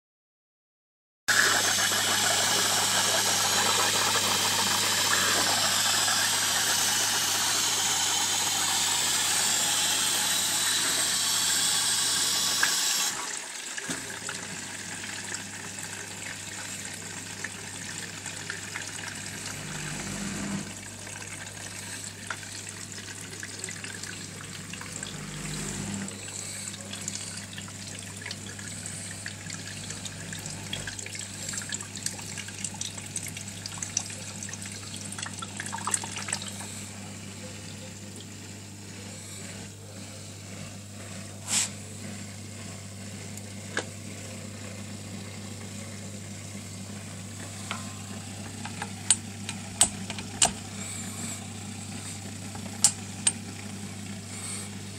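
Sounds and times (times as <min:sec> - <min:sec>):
dishwasher humming: 0:01.3 - 0:54.9.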